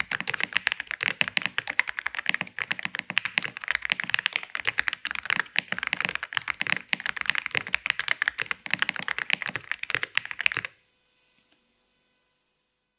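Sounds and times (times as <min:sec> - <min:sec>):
mechanical keyboard typing: 0:00.0 - 0:10.7.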